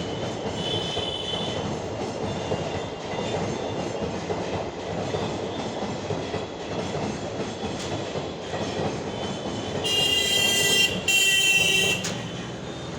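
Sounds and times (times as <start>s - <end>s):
train wheels clickety-clack: 0.0s - 12.9s.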